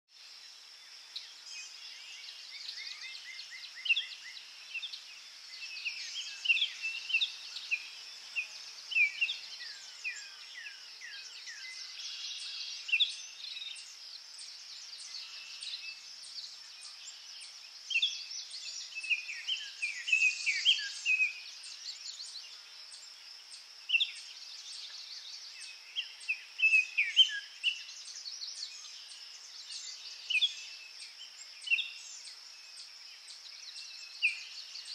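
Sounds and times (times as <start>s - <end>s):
small birds singing: 0.1s - 34.9s.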